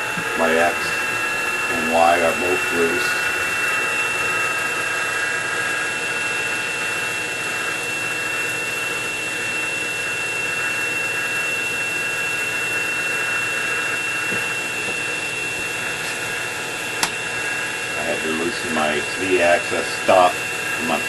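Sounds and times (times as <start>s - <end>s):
mill spindle motor whine: 0.0s - 21.0s.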